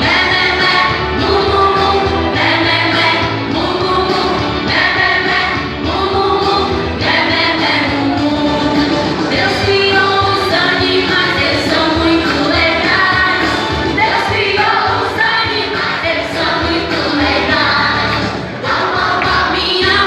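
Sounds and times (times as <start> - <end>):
voices singing together: 0.0 - 20.0.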